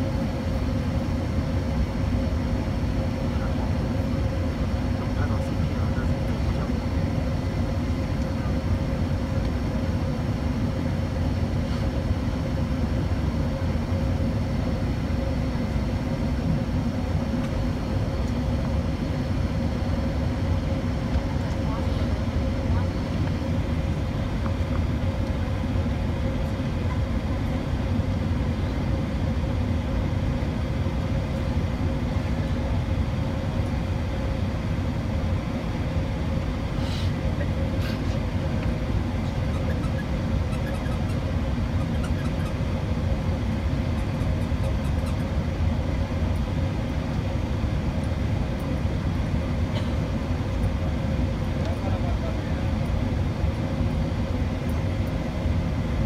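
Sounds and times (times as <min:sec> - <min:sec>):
aircraft cabin engine rumble: 0:00.0 - 0:56.0
faint steady hum: 0:00.0 - 0:56.0.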